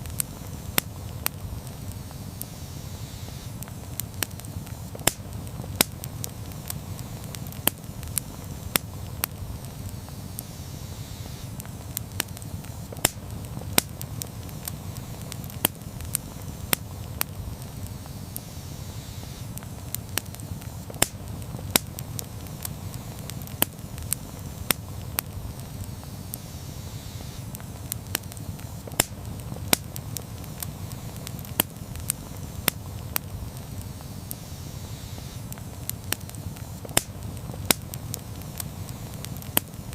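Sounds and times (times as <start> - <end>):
low rumble of flames: 0.0 - 39.9
wood crackling and popping: 0.0 - 39.9.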